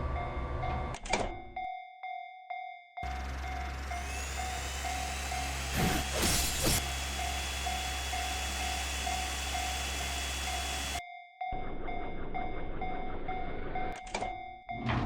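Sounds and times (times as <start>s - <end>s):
level crossing alarm clanging: 0.0s - 2.2s, 3.0s - 15.0s.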